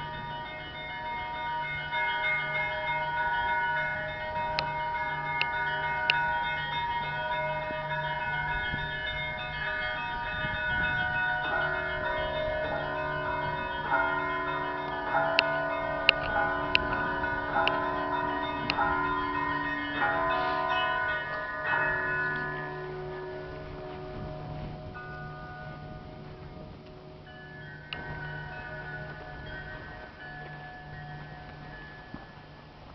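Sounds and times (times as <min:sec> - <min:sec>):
church bells ringing: 0:00.0 - 0:32.9
low pulsing bell: 0:00.0 - 0:32.9.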